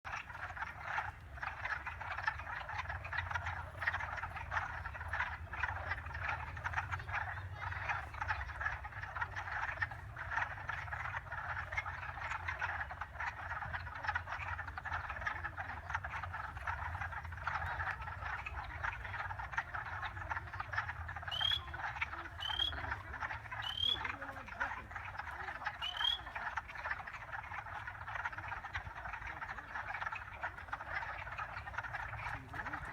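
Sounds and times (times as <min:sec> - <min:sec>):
frogs chorus: 0:00.1 - 0:32.9.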